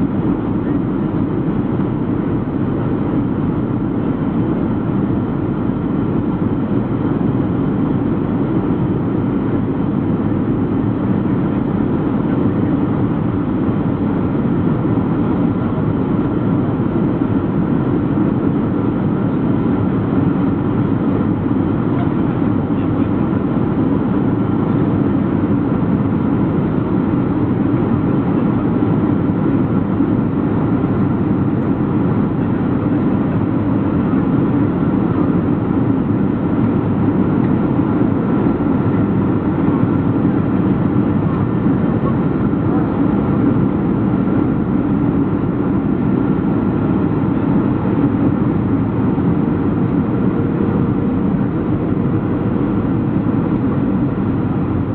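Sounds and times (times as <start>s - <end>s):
airplane cabin rumble: 0.0s - 54.9s
faint steady whine: 0.0s - 54.9s.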